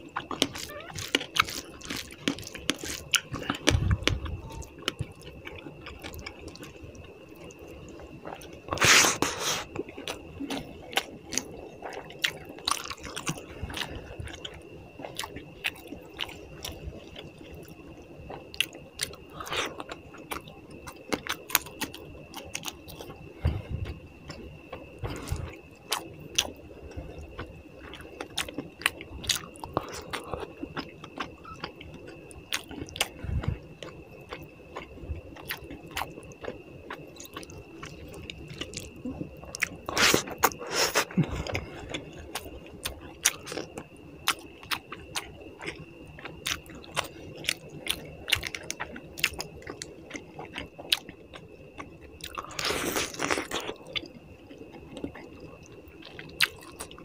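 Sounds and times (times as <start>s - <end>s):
faint high whine: 0.0s - 57.0s
chewing and mouth smacking: 0.2s - 57.0s.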